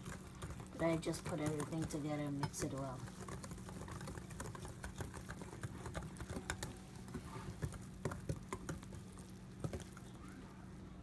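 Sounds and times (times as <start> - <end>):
utensil stirring batter in a bowl: 0.0 - 11.0.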